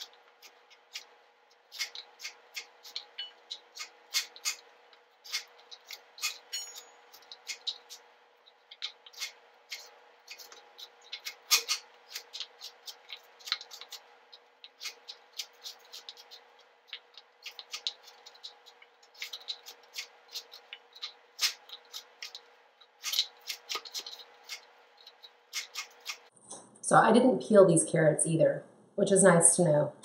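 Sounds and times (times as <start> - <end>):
knife cutting carrots on board: 0.0 - 26.3.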